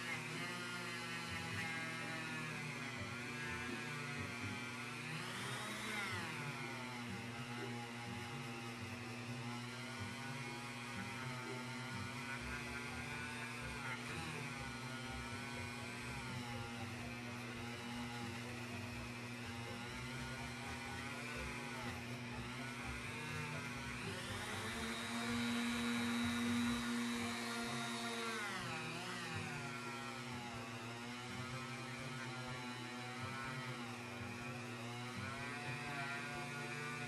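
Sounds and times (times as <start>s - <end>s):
rotary tool motor whine: 0.0s - 37.0s.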